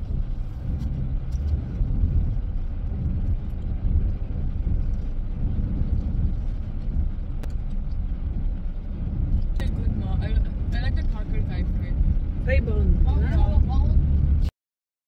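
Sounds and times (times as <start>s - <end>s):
car cabin road and engine rumble: 0.0s - 14.5s.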